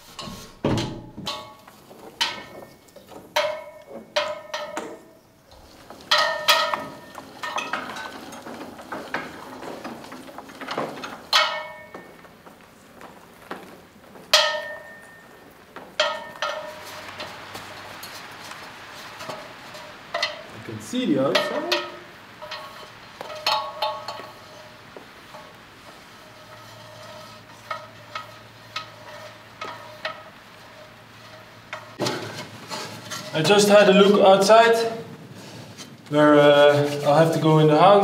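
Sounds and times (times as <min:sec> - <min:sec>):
metallic clanks and knocks: 0:00.0 - 0:33.8.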